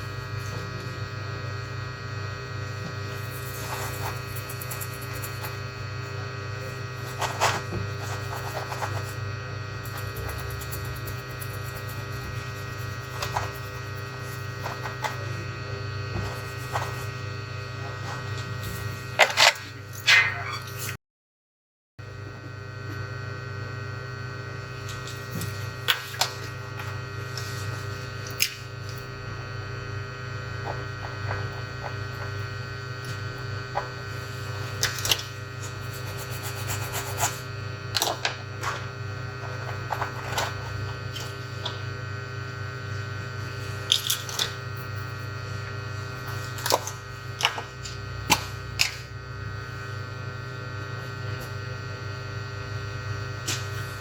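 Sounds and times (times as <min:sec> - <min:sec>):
low electrical hum: 0:00.0 - 0:21.0, 0:22.0 - 0:54.0.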